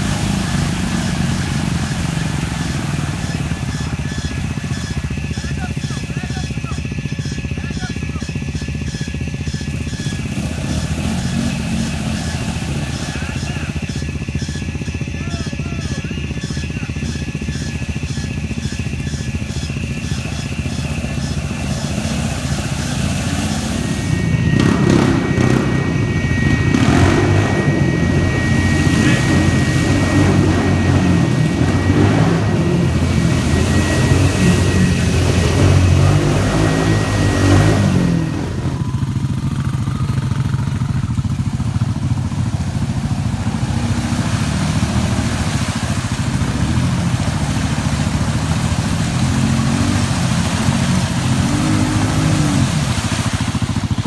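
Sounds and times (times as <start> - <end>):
atv engines revving: 0.0 - 54.0.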